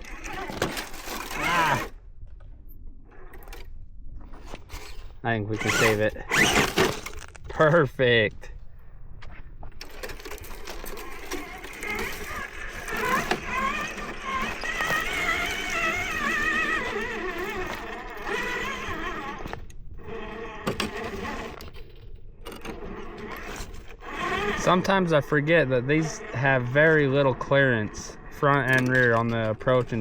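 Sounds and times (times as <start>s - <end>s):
rc car electric motor whining: 0.0s - 2.0s, 4.3s - 7.8s, 9.8s - 30.0s.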